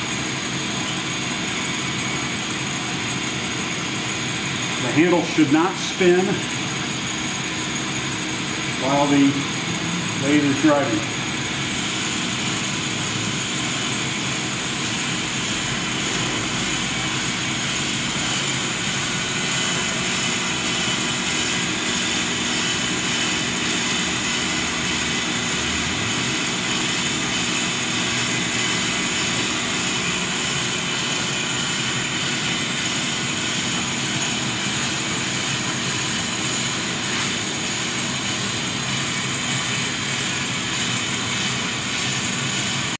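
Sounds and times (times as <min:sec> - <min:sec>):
brake lathe whine and hum: 0:00.0 - 0:42.9.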